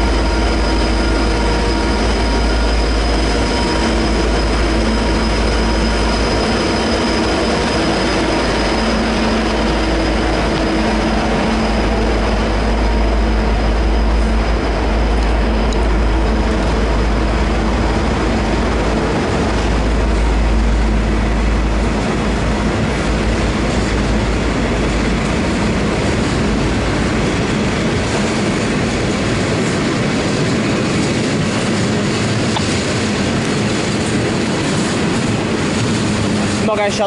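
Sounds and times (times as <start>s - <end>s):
train carriages rumbling past: 0.0s - 37.0s
wheels clattering on rails: 0.0s - 37.0s.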